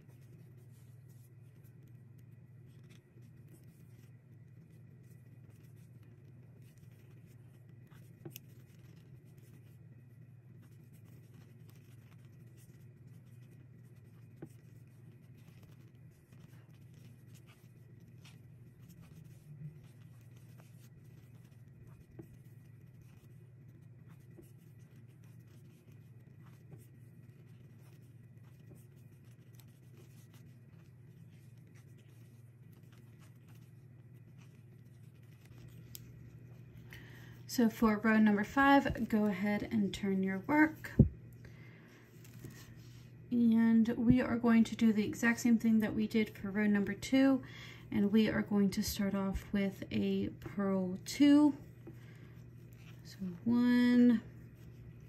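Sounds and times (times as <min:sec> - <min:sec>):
faint low hum: 0:00.0 - 0:55.0
yarn rubbing: 0:00.0 - 0:55.0.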